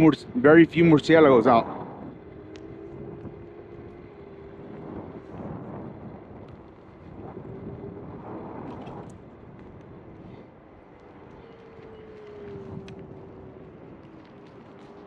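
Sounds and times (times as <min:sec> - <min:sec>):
electric scooter motor whining: 0:00.0 - 0:15.0
wind on microphone: 0:00.0 - 0:15.0.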